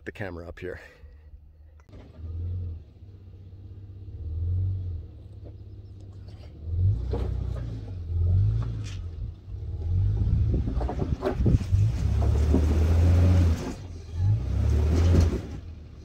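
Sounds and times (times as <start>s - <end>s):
truck engine revving low: 1.9s - 16.0s.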